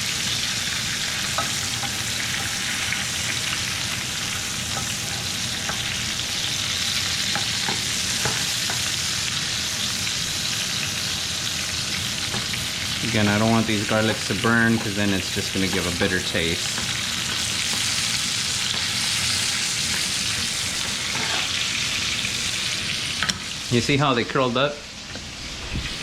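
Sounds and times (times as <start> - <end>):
meat sizzling in hot fat: 0.0 - 26.0.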